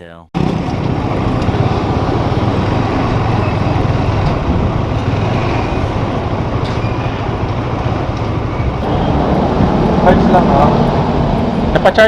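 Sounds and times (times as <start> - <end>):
traffic rumble: 0.4 - 12.0.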